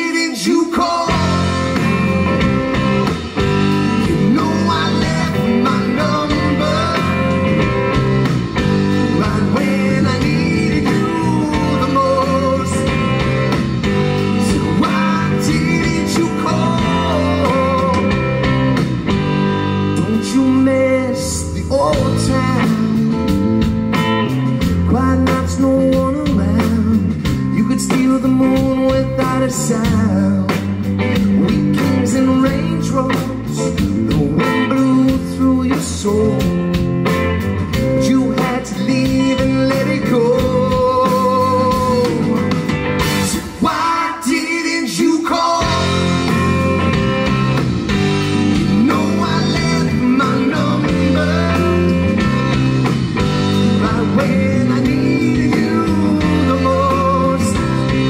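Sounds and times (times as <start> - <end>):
electric bass: 0.6 - 58.0
electric guitar lead bending: 0.8 - 44.2, 45.4 - 58.0
steady drum beat: 1.0 - 20.6, 21.9 - 58.0.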